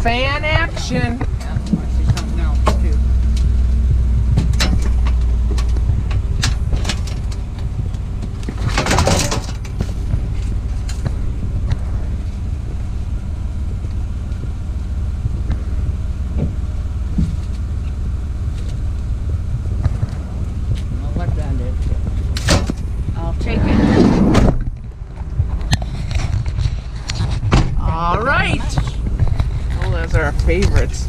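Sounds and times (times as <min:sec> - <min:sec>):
vehicle engine rumbling: 0:00.0 - 0:31.0
knocks and clatter: 0:00.1 - 0:13.0, 0:15.2 - 0:23.3, 0:23.9 - 0:31.0.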